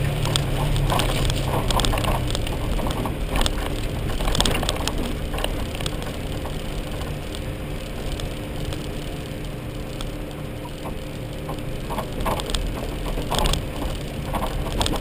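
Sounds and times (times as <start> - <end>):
faint whine: 0.0 - 15.0
vehicle engine drone: 0.0 - 15.0
vehicle rattles and knocks: 0.0 - 15.0.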